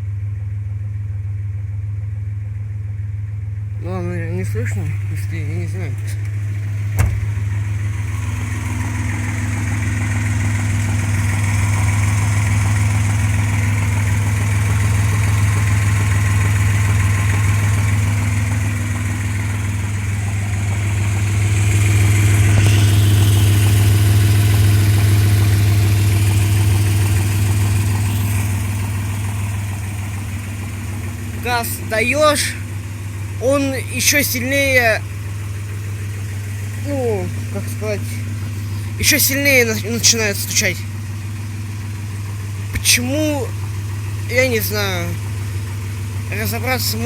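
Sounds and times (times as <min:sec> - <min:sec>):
car engine running: 0:00.0 - 0:47.0
engine ticking knock: 0:04.3 - 0:47.0.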